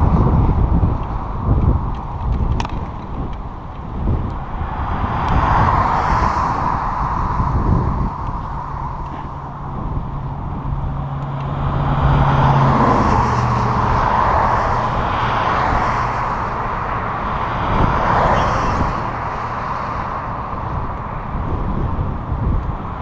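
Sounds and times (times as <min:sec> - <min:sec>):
road noise: 0:00.0 - 0:23.0
wind rumble on microphone: 0:00.0 - 0:23.0
vehicle passing by: 0:04.0 - 0:23.0.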